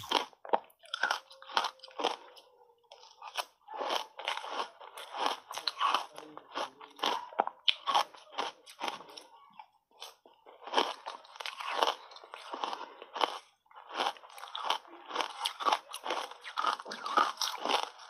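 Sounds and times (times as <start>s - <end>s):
chewing ice cubes: 0.0s - 18.0s.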